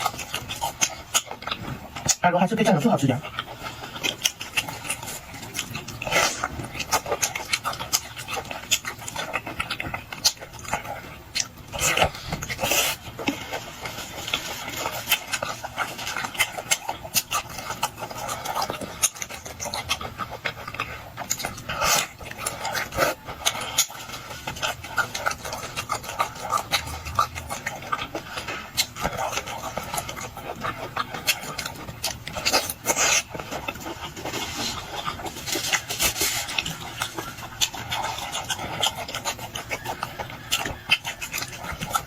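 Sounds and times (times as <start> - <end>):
person chewing with wet mouth clicks: 0.0 - 42.0.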